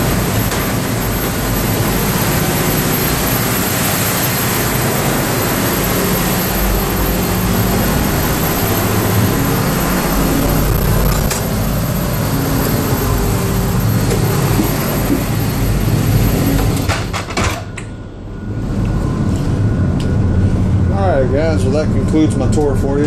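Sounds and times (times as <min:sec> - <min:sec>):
diesel engine room machinery: 0:00.0 - 0:23.0.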